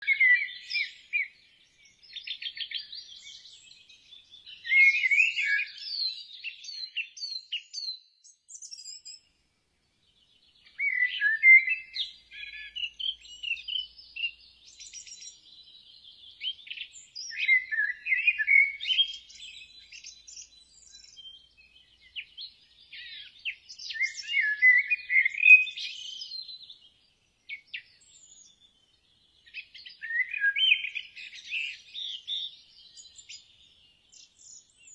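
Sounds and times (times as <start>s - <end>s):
birds chirping and singing: 0.0s - 9.3s, 10.0s - 34.9s.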